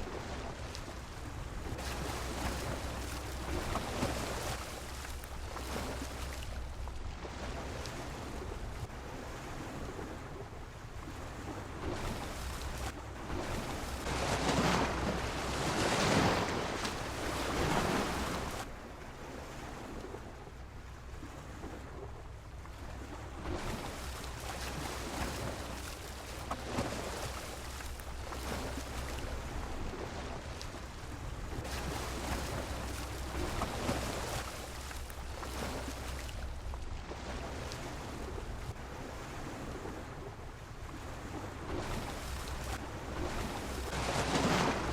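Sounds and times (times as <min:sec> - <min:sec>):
waves washing against pier: 0:00.0 - 0:44.9.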